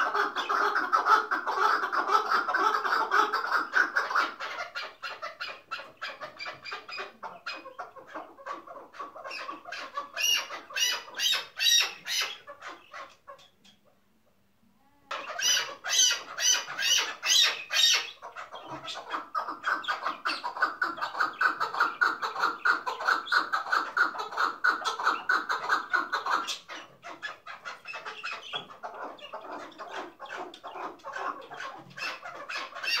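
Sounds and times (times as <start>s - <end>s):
partridge calling: 0.0s - 13.8s, 15.1s - 33.0s.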